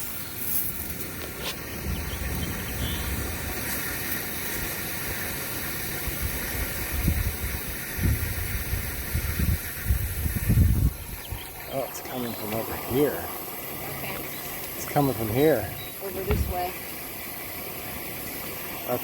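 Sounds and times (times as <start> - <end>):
water running under pressure: 0.0 - 19.0.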